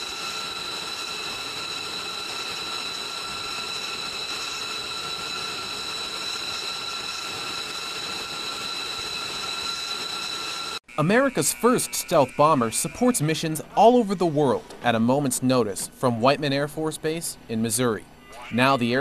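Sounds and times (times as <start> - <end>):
jet engines whining: 0.0 - 17.5.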